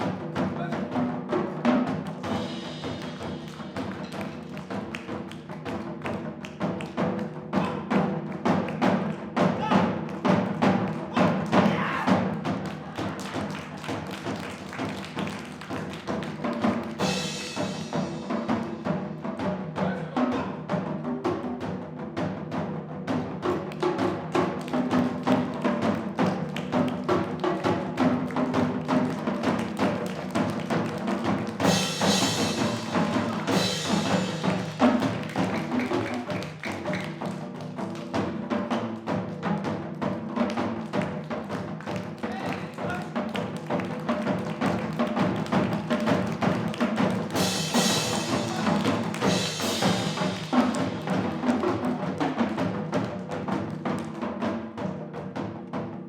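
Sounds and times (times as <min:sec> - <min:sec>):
fast dense drumming: 0:00.0 - 0:56.0.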